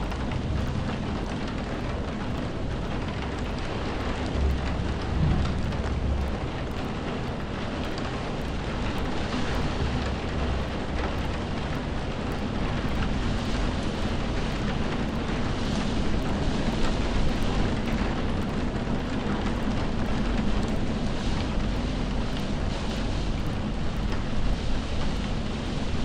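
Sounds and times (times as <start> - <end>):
continuous low rumble: 0.0 - 26.0
hiss of falling rain: 0.0 - 26.0.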